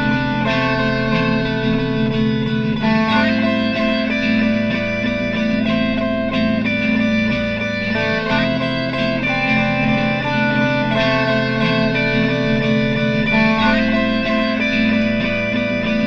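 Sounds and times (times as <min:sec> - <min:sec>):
looped electric guitar: 0:00.0 - 0:16.0.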